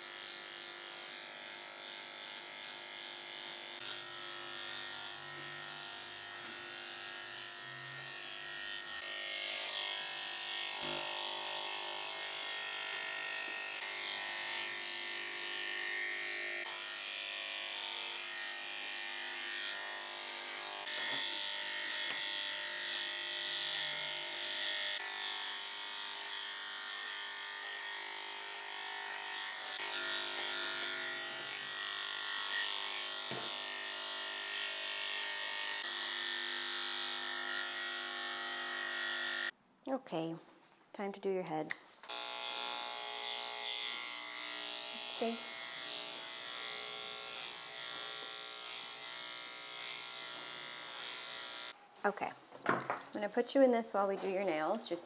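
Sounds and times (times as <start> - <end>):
electric motor buzzing hum: 0.0 - 39.5, 42.1 - 51.8.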